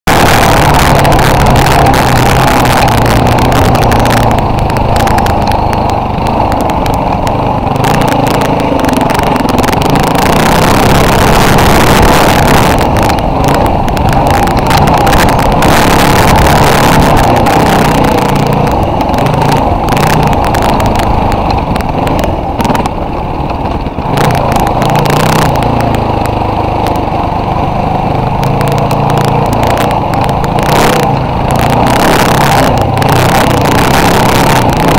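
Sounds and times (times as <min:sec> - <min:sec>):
continuous rumbling noise: 0:00.0 - 0:34.9
off-road vehicle engine: 0:00.0 - 0:34.9.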